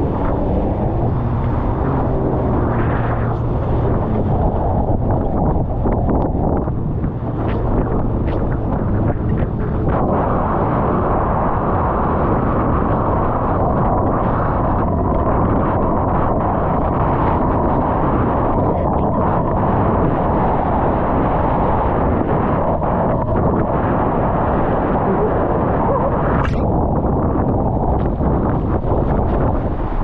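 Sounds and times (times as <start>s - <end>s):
churning surf: 0.0s - 30.0s
wind buffeting microphone: 0.0s - 30.0s.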